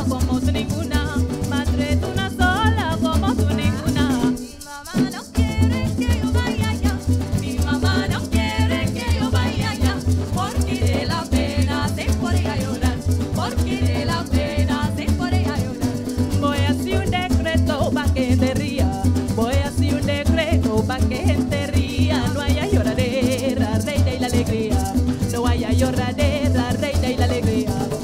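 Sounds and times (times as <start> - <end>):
acoustic guitar strumming: 0.0 - 28.0
cuatro strumming: 0.0 - 28.0
rattle shaking: 0.0 - 28.0.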